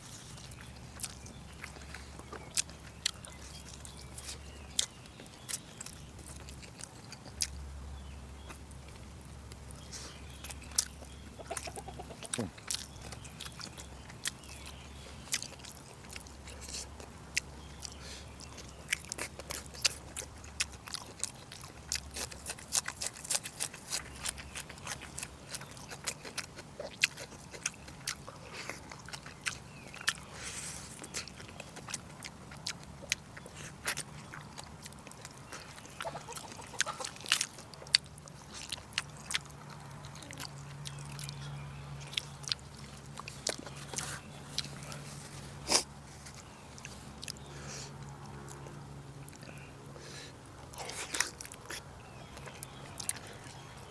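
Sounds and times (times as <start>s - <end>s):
person chewing with mouth clicks: 0.0s - 53.9s.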